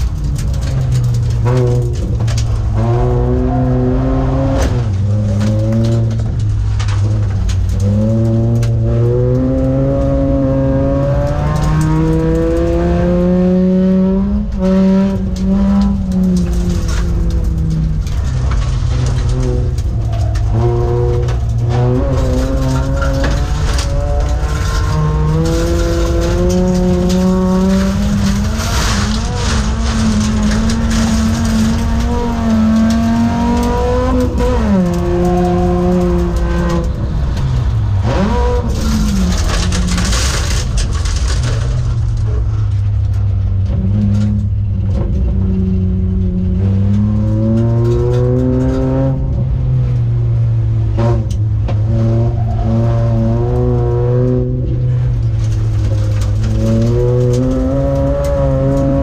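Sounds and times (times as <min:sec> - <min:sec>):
tyres on gravel: 0:00.0 - 0:09.9, 0:14.6 - 0:49.8, 0:50.5 - 0:59.0
race car engine accelerating: 0:00.0 - 0:59.0.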